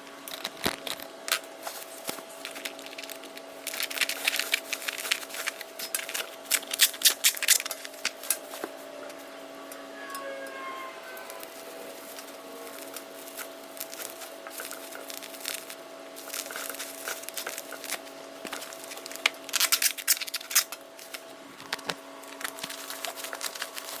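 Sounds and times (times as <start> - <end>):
faint steady hum: 0.0 - 24.0
packing material rustling: 0.3 - 9.2, 11.1 - 24.0.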